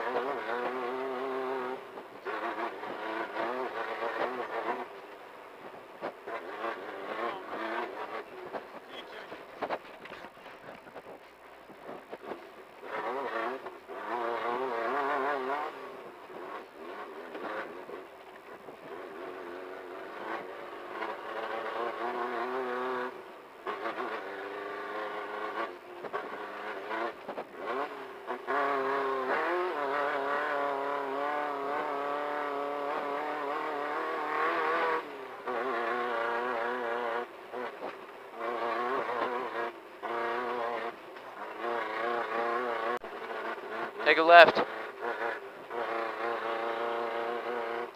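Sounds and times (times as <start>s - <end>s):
race car engine accelerating: 0.0s - 47.9s.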